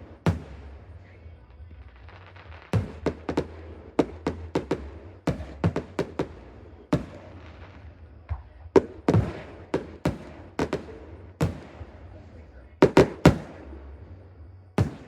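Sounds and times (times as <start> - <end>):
fireworks bangs echoing: 0.0 - 15.0.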